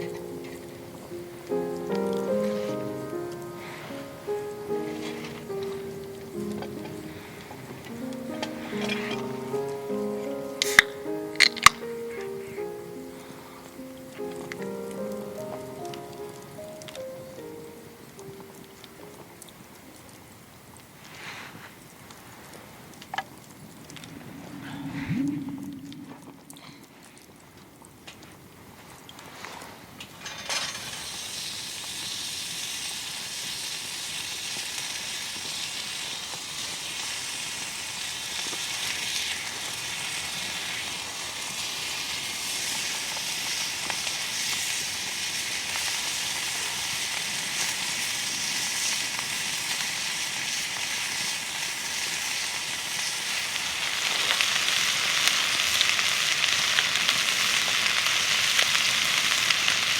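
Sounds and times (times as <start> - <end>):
food sizzling in a hot pan: 0.0 - 19.6, 30.2 - 59.9.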